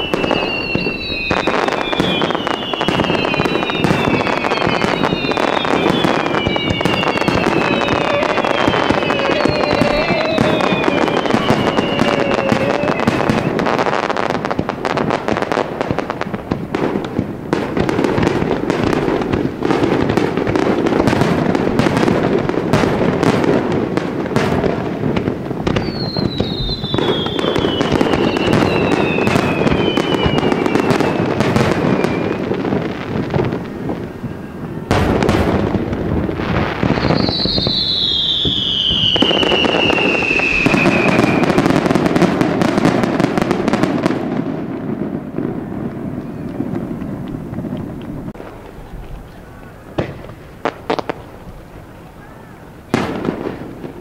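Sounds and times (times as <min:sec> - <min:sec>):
firework whistles falling in pitch: 0:00.0 - 0:23.7, 0:24.4 - 0:47.7
firework bang: 0:00.0 - 0:49.3
fireworks crackling and popping: 0:00.0 - 0:54.0.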